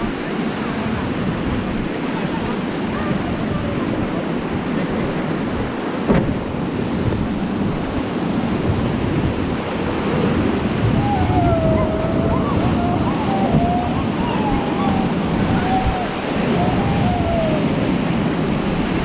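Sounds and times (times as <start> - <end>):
rushing river whitewater: 0.0 - 19.0
wind buffeting microphone: 0.0 - 19.0.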